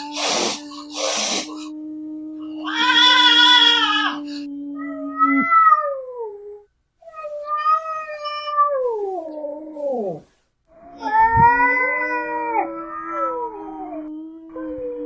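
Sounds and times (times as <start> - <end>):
angry cat yowling: 0.0 - 15.0.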